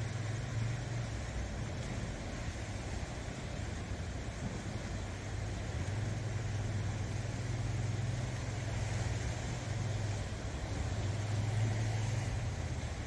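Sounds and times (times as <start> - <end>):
waves breaking over rocks: 0.0 - 13.0.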